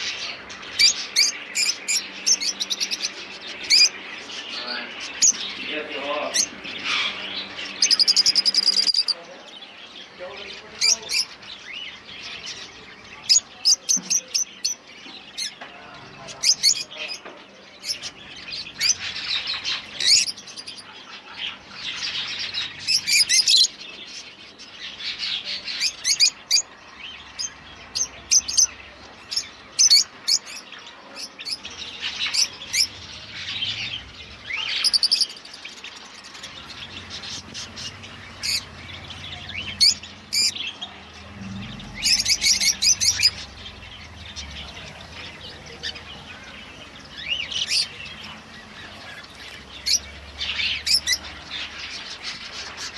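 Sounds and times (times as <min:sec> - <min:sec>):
caged birds chirping: 0:00.0 - 0:52.9.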